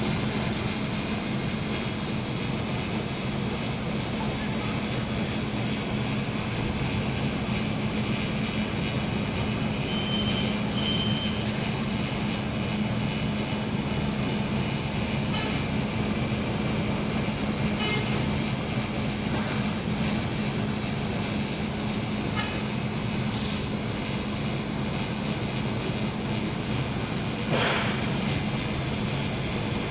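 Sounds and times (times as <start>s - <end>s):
low hum and rumble: 0.0s - 29.9s.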